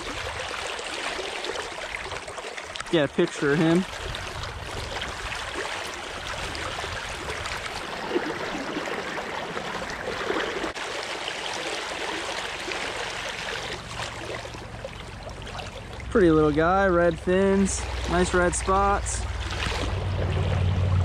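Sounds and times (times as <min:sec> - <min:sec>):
stream water running: 0:00.0 - 0:21.0.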